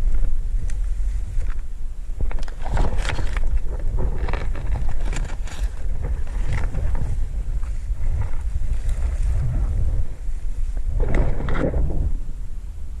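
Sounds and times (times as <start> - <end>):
short rustles and crackles: 0.0 - 12.1
wind buffeting microphone: 0.0 - 13.0.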